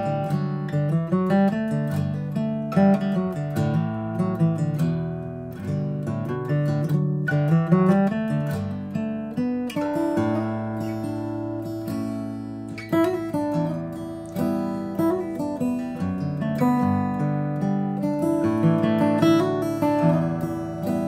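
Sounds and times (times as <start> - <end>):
fingerstyle acoustic guitar: 0.0 - 21.0.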